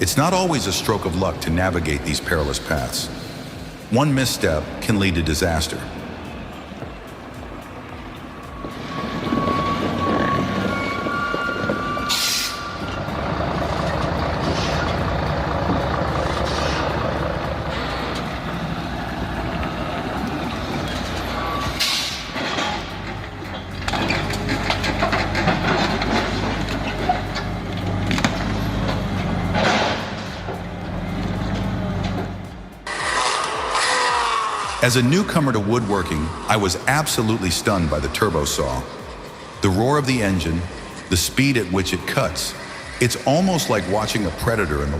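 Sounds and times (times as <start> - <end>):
diesel truck engine under load: 0.0 - 44.9.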